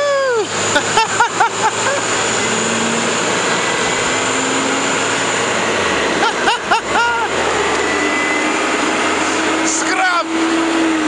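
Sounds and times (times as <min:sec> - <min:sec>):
bus engine under load: 0:00.0 - 0:11.0.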